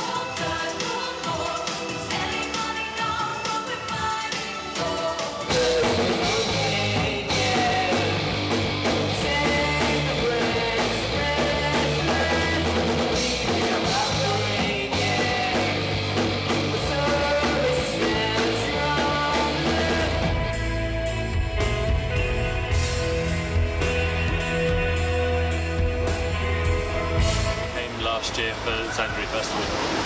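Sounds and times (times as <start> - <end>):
rock music with drums and guitar: 0.0 - 30.0.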